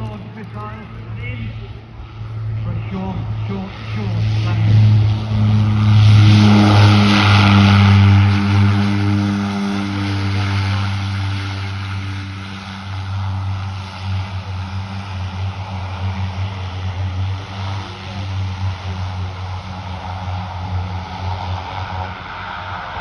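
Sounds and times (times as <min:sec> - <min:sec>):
propeller engines droning: 0:00.0 - 0:23.0.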